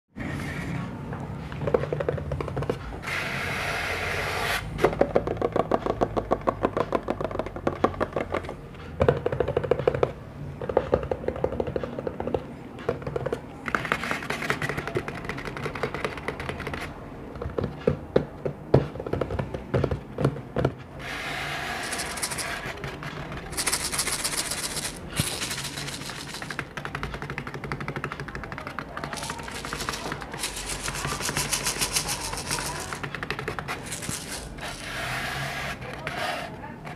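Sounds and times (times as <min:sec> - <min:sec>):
rapid tapping and scratching on objects: 0:01.3 - 0:36.9.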